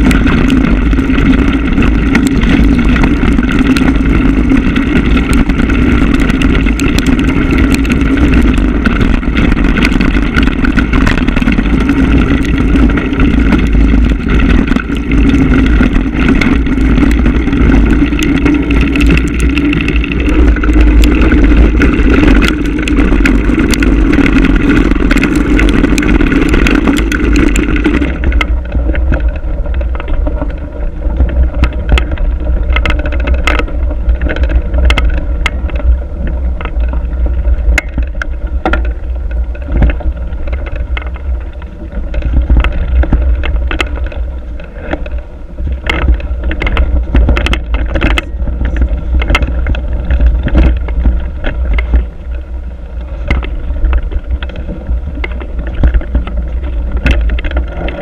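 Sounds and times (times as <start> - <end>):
bike clicks and rattles: 0.0 - 58.0
wind and vibration rumble: 0.0 - 58.0.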